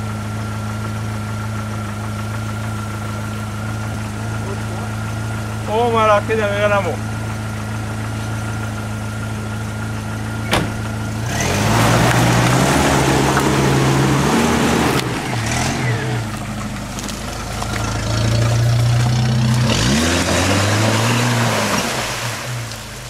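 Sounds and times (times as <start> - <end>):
car engine idling and revving: 0.0 - 23.0
tyres churning mud: 2.0 - 23.0.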